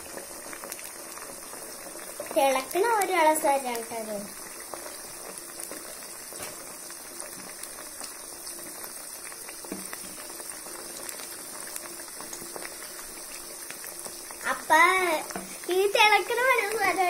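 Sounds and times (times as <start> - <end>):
deep-frying sizzle with crackles: 0.0 - 17.0.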